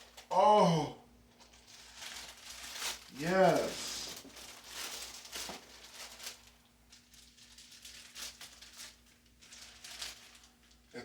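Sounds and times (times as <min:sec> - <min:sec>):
paper packaging rustling: 0:01.4 - 0:10.9.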